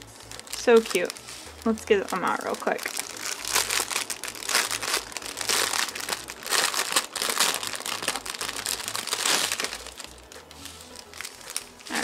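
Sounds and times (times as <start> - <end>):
plastic wrap crinkling: 0.0 - 12.0.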